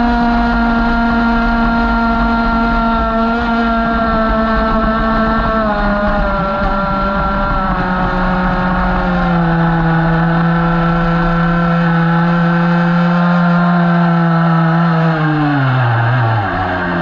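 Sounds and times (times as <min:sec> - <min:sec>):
model boat motor droning: 0:00.0 - 0:17.0.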